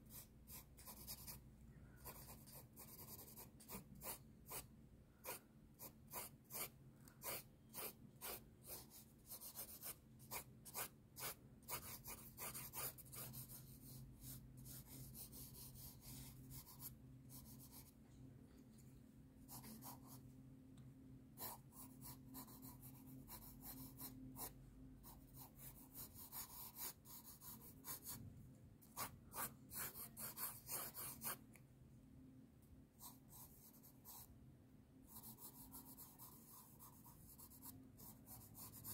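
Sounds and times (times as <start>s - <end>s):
pencil scratching on paper: 0.0s - 1.4s, 2.0s - 18.0s, 19.5s - 20.2s, 21.4s - 28.2s, 28.9s - 31.4s, 33.0s - 34.3s, 35.1s - 38.9s.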